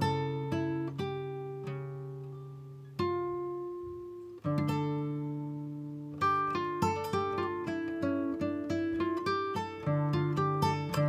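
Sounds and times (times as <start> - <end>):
plucked string instrument music: 0.0 - 11.0.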